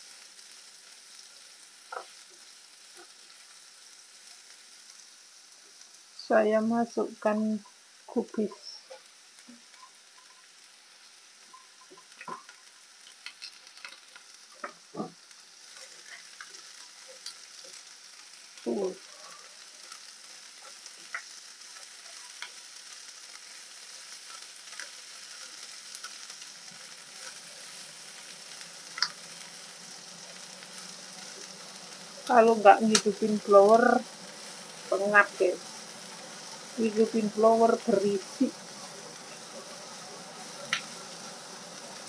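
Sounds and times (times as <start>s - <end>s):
vegetables sizzling in frying pan: 0.0s - 42.0s.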